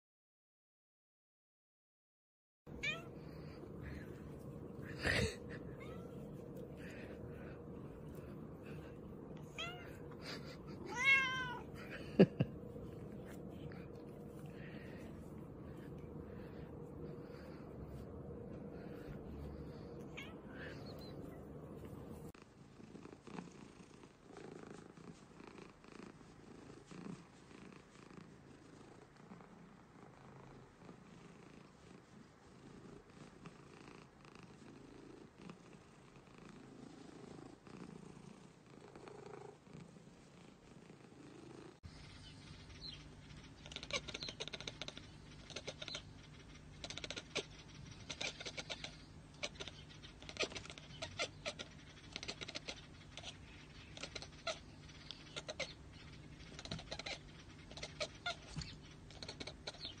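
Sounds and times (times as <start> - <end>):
steady low hum: 2.7 - 60.0
cat purring: 2.8 - 60.0.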